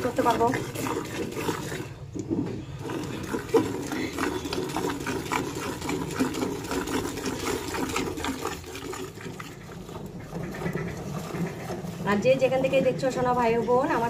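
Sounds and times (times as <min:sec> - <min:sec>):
milk squirting into metal pail: 0:00.0 - 0:14.0.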